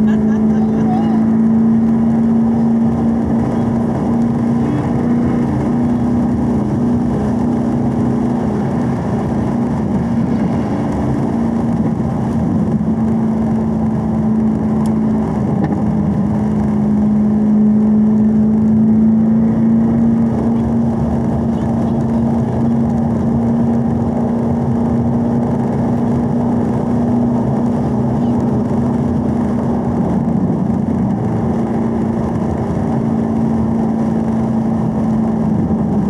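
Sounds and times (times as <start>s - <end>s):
car engine drone: 0.0s - 36.0s
road and tyre noise: 0.0s - 36.0s.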